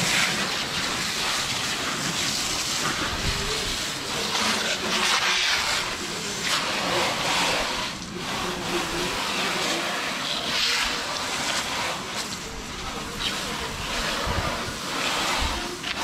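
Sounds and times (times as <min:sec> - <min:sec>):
hose spray hissing on car: 0:00.0 - 0:16.0.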